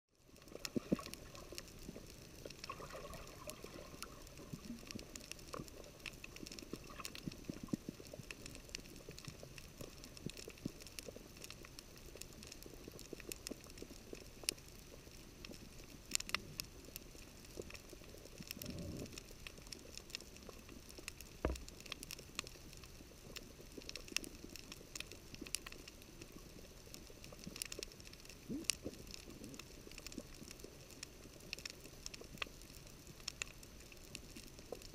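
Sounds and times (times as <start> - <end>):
sharp clicks and crackles: 0.2 - 34.9.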